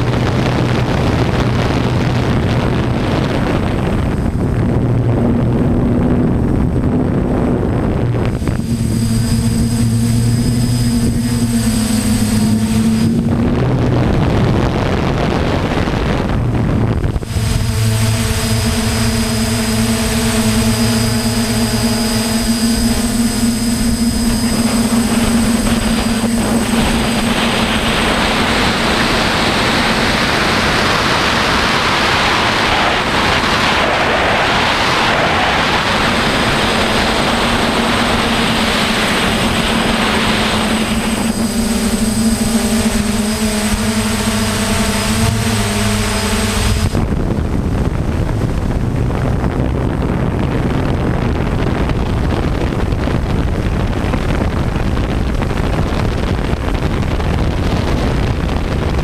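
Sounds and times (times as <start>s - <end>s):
broad rushing noise: 0.0s - 59.0s
drone motors humming: 0.0s - 59.0s.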